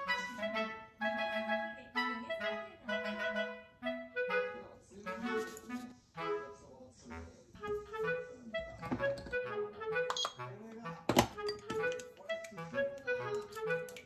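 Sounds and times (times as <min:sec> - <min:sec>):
bouncy clarinet melody: 0:00.0 - 0:06.6, 0:07.6 - 0:14.0.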